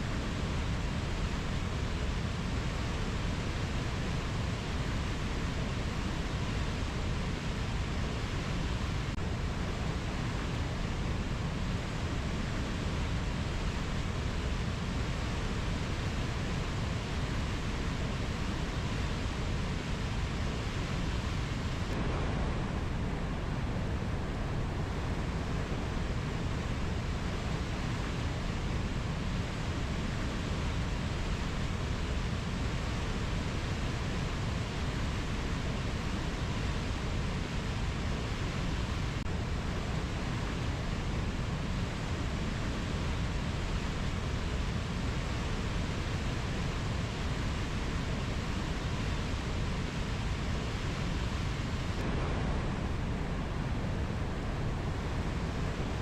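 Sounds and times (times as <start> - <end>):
steady rushing nature ambience: 0.0 - 56.0.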